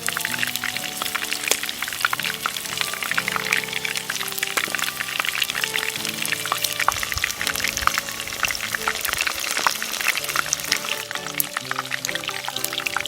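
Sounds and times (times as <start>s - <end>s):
background music: 0.0s - 13.0s
food deep-frying in hot oil: 0.0s - 13.0s.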